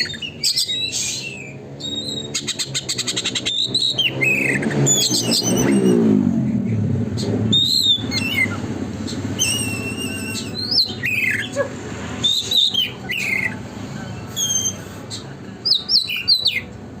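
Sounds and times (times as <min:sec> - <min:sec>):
bird singing whistled song: 0:00.0 - 0:06.2, 0:07.5 - 0:11.5, 0:12.2 - 0:13.6, 0:14.3 - 0:16.7.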